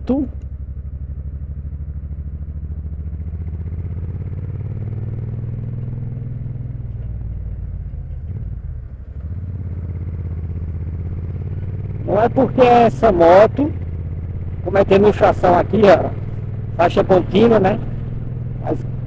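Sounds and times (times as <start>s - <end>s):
motorcycle engine pulsing: 0.0s - 19.0s.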